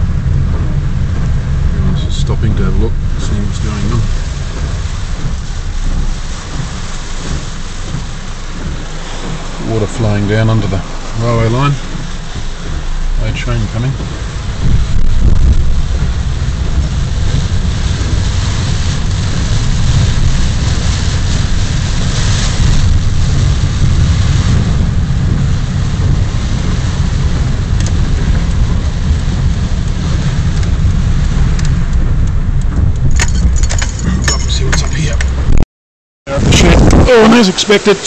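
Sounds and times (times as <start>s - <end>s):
heavy rain: 0.0s - 35.6s, 36.3s - 38.0s
steady low rumble: 0.0s - 35.6s, 36.3s - 38.0s.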